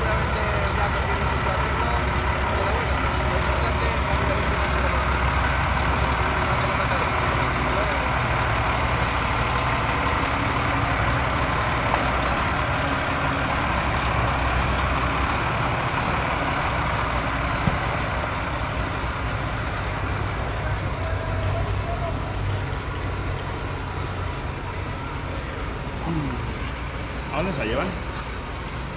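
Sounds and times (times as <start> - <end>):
heavy vehicle engine idling: 0.0 - 28.9.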